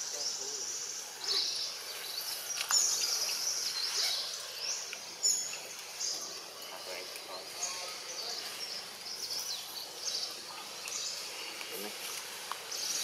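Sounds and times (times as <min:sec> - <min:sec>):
birds chirping: 0:00.0 - 0:13.0
steady background hiss: 0:00.0 - 0:13.0.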